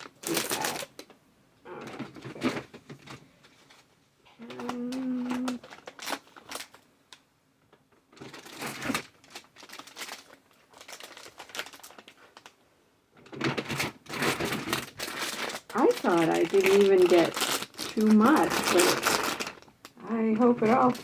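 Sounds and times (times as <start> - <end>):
plastic packaging crinkling: 0.0 - 1.2, 1.8 - 7.2, 8.1 - 21.0.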